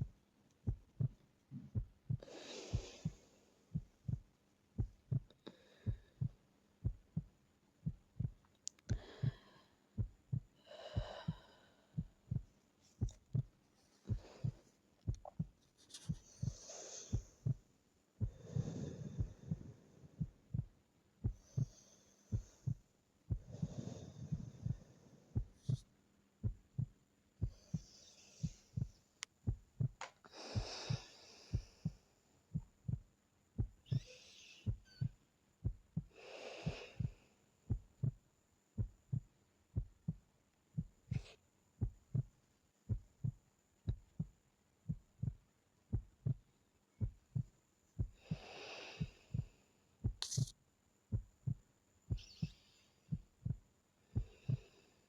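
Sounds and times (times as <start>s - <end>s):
heartbeat thumps: 0.0s - 25.8s, 26.4s - 50.5s, 51.1s - 54.7s
soft slow breathing: 0.7s - 33.0s, 33.6s - 38.2s, 40.8s - 42.3s, 47.0s - 50.5s, 51.1s - 55.0s.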